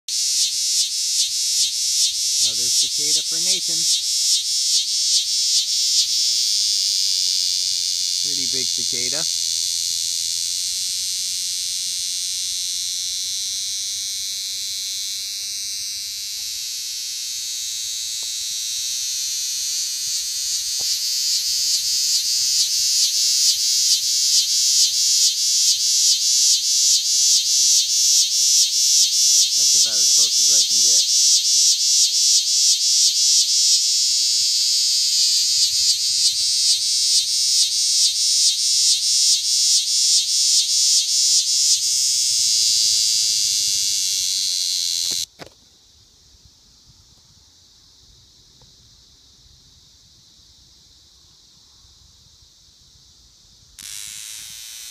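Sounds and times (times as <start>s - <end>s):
cicada buzzing: 0.1s - 45.5s, 52.6s - 54.9s.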